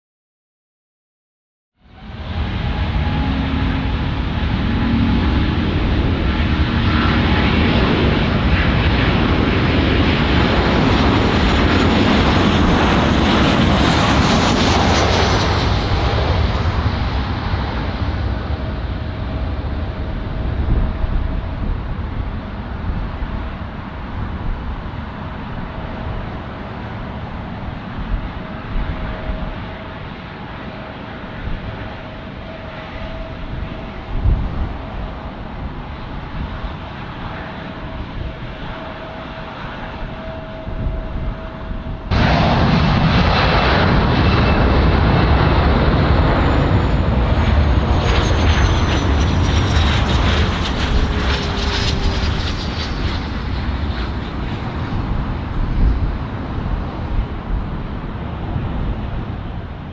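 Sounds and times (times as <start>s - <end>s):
jet engines whining: 1.9s - 59.9s.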